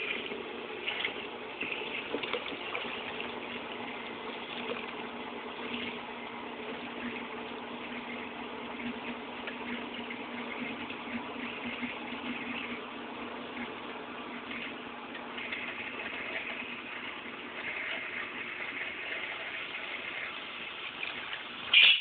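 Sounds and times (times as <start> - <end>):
washing machine hum: 0.0 - 22.0
water gushing and splashing: 0.0 - 22.0.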